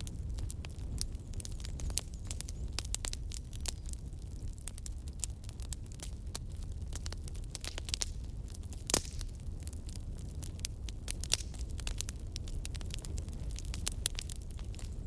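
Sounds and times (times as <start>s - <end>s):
log fire crackling and popping: 0.0s - 15.0s
low fire rumble: 0.0s - 15.0s.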